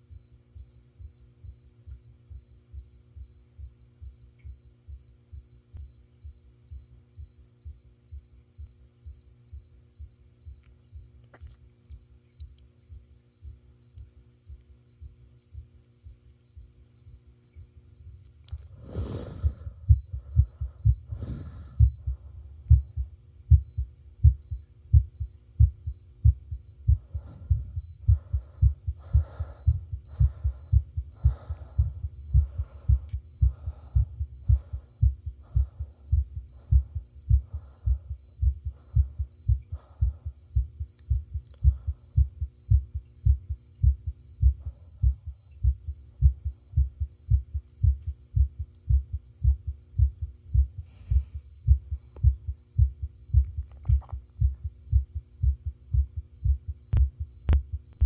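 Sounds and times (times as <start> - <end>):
heartbeat thumps: 0.0 - 12.1, 12.8 - 18.2, 18.8 - 58.0
faint steady hum: 0.0 - 58.0.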